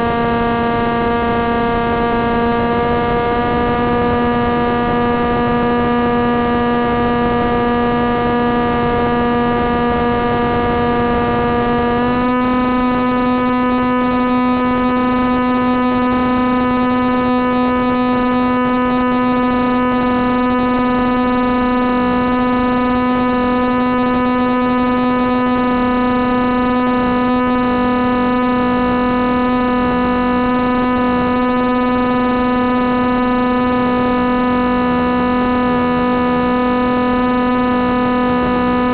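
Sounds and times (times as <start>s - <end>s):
electric motor spinning propeller hum: 0.0s - 38.9s.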